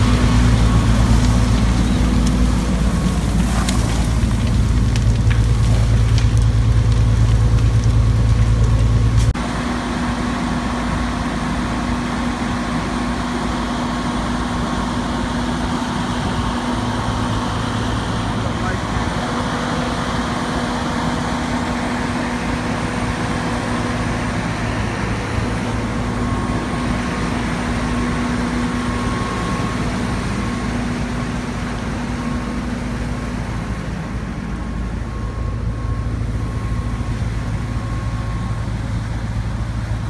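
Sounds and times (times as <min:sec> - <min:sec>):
fire engine pump running: 0:00.0 - 0:40.0.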